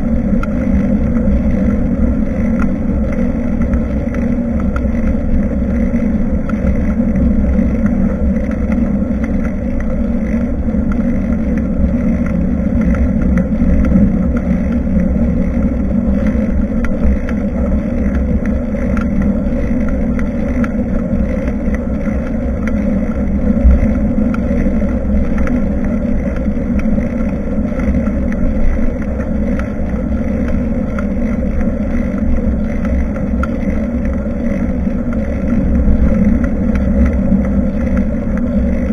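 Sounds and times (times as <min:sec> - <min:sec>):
road rumble: 0:00.0 - 0:38.9
wind on microphone: 0:00.0 - 0:38.9.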